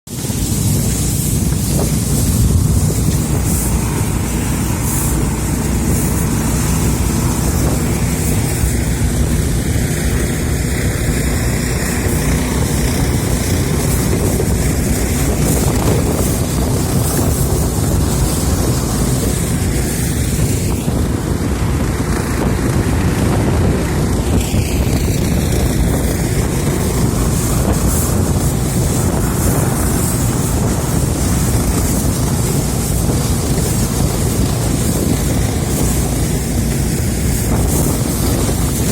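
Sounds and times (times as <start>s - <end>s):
motorboat engine running: 0.1s - 38.9s
rushing water: 0.1s - 38.9s
wind noise on microphone: 0.1s - 38.9s.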